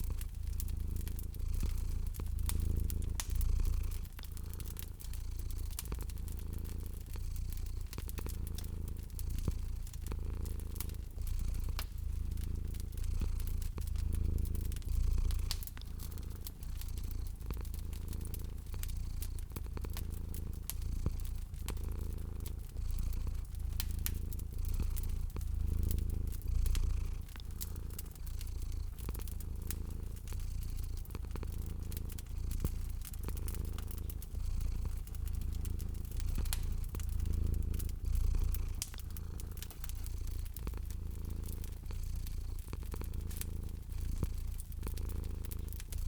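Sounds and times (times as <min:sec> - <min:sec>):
cat purring: 0:00.0 - 0:46.0
wood fire crackling: 0:00.0 - 0:46.0.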